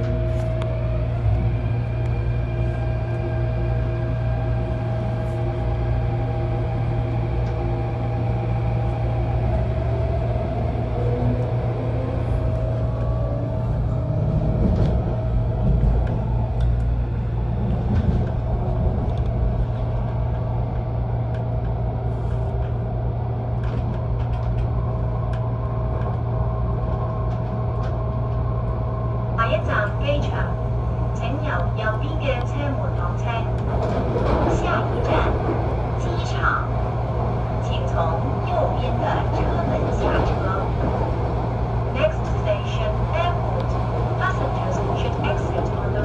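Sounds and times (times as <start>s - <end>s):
train running gear rumble: 0.0s - 46.0s.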